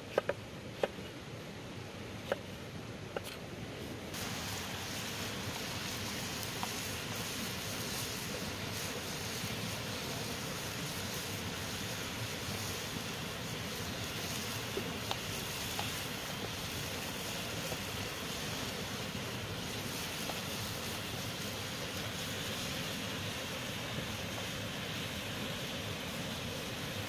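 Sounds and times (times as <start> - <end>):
meat and vegetables sizzling in a pan: 4.1 - 27.0.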